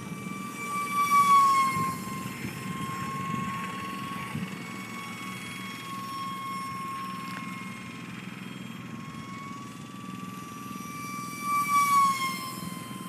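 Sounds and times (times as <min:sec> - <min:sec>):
electric jet fan whining: 0:00.0 - 0:13.0.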